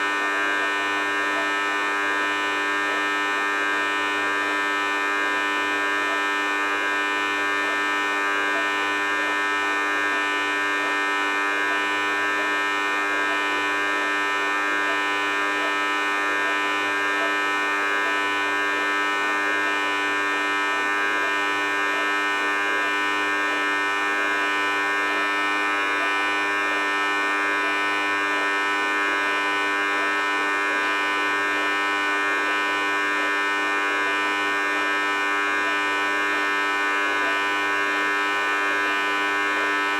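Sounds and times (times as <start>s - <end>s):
dishwasher buzzing drone: 0.0s - 39.9s.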